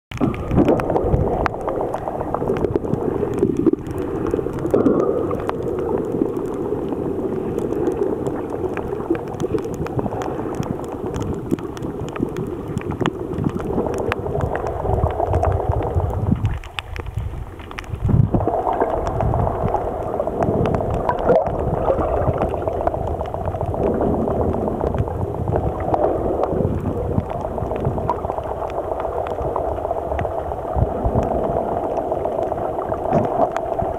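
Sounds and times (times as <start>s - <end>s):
faint clicks and crackles: 0.1s - 33.9s
underwater rush of water: 0.1s - 33.9s.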